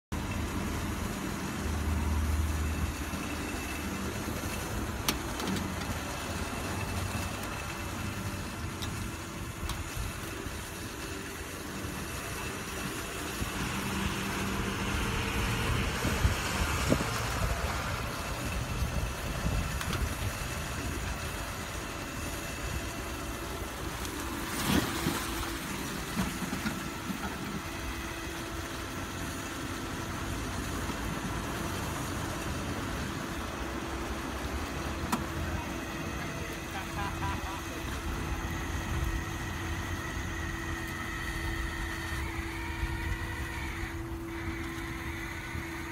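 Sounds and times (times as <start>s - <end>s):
tow truck engine running: 0.1s - 45.9s.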